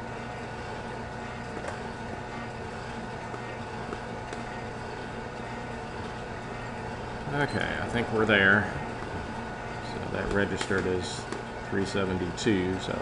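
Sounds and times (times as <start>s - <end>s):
coffee roaster motor hum: 0.0s - 13.0s.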